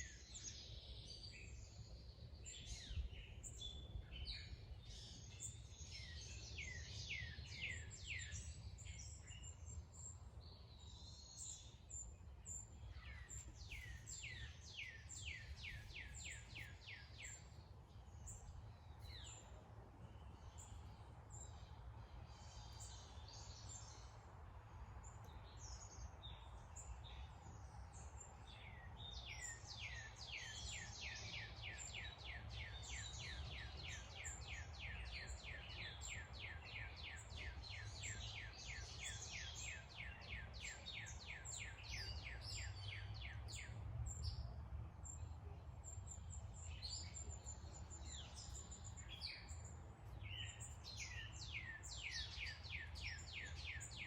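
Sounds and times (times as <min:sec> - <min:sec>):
wild birds chirping: 0:00.0 - 0:54.0.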